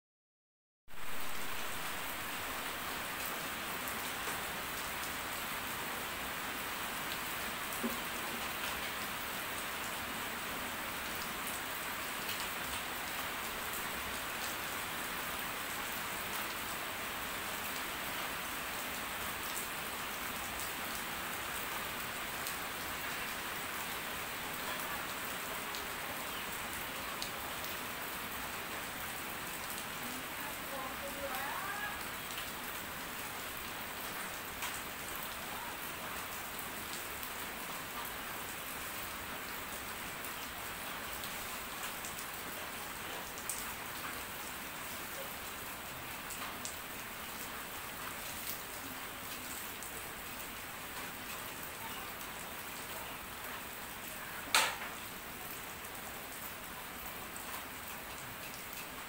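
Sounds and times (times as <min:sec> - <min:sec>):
rain pattering on leaves: 0:00.9 - 0:59.0.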